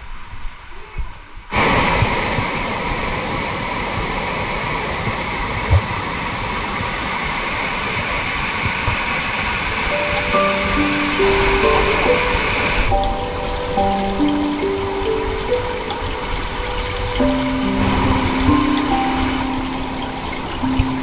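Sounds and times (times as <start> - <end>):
water rushing over rocks: 1.5 - 21.0.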